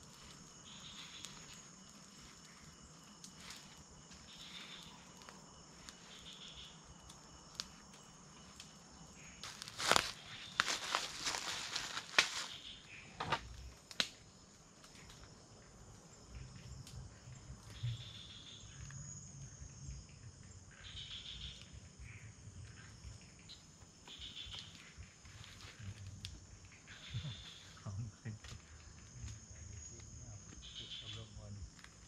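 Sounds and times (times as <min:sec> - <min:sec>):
high-pitched insect drone: 0:00.0 - 0:14.4, 0:15.1 - 0:32.0
short repeating insect call: 0:00.0 - 0:32.0.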